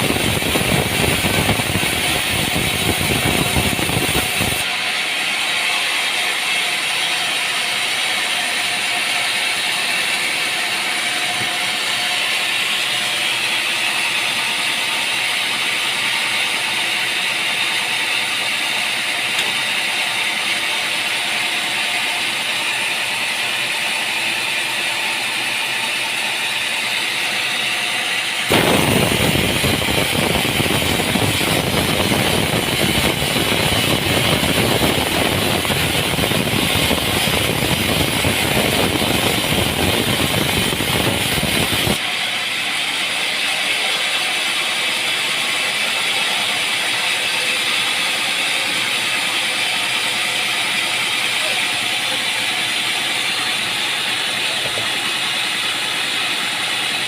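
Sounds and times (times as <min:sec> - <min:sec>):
loud rough sawing noise: 0:00.0 - 0:57.0
sawmill machinery running: 0:00.0 - 0:57.0.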